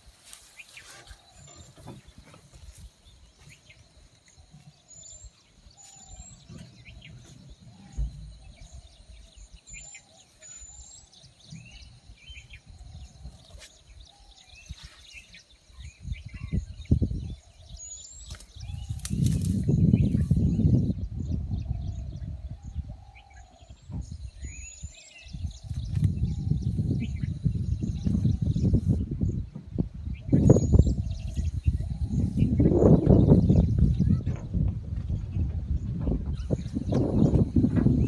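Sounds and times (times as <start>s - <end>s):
birds chirping and whistling: 0.0s - 38.0s.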